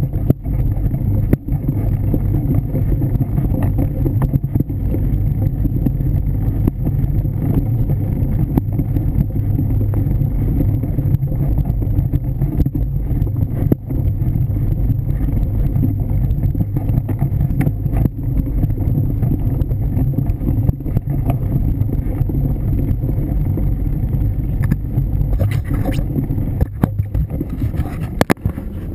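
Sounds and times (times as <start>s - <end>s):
bike rattling and clicking: 0.0s - 28.9s
tyre and wind rumble: 0.0s - 28.9s.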